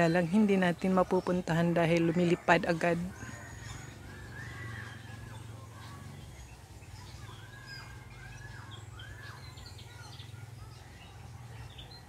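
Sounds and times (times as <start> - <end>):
birds whistling: 0.0 - 12.0.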